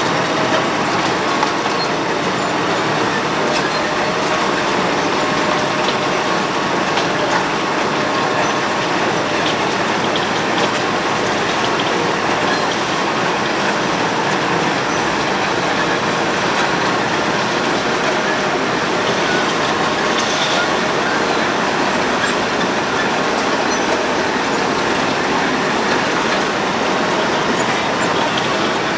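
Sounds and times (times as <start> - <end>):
road planer grinding road surface: 0.0 - 28.9.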